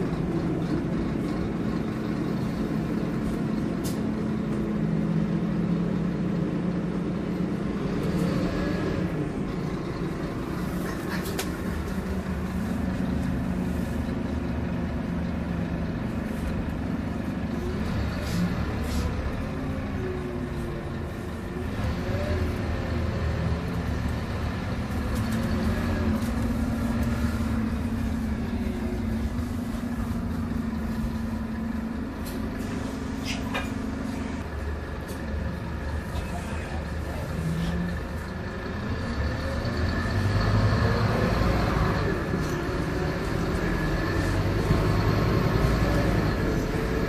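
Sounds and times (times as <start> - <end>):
bus diesel engine: 0.0 - 47.0
road rumble: 0.0 - 47.0.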